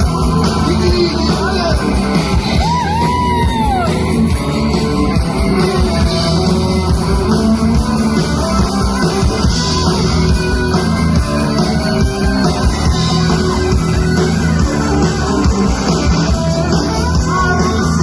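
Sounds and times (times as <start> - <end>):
live rock band: 0.0 - 18.0.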